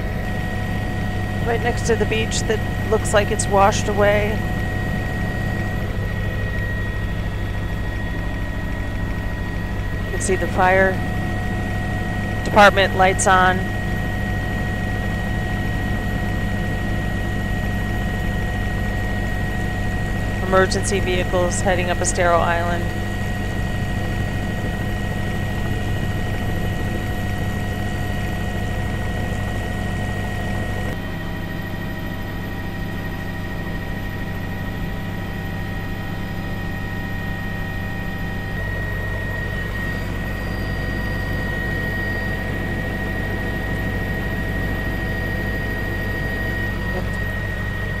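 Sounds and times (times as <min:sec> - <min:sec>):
helicopter rotor and engine drone: 0:00.0 - 0:48.0.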